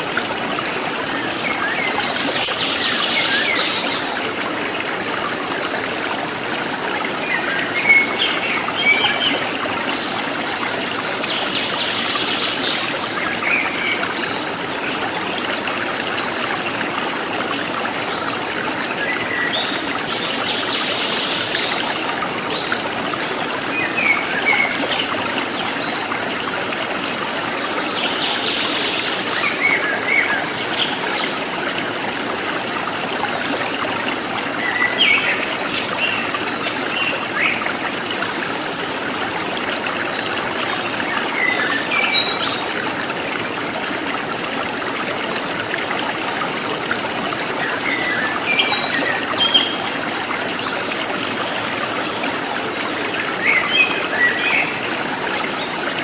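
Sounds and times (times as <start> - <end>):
stream trickling and gurgling: 0.0 - 56.0.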